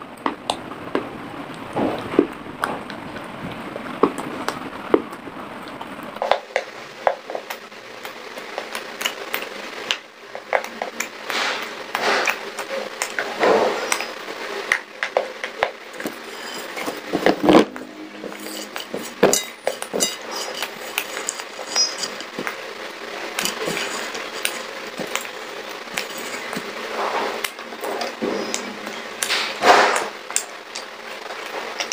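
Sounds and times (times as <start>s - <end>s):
crunching and chewing clay: 0.3s - 17.2s, 18.8s - 31.9s.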